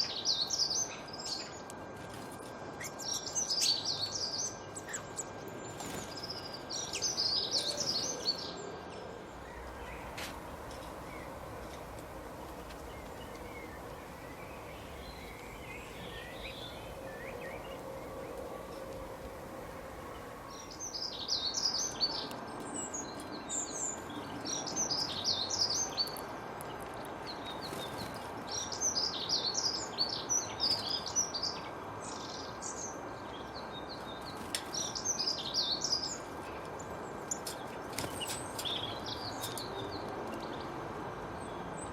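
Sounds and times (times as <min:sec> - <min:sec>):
small birds chirping: 0:00.0 - 0:40.8.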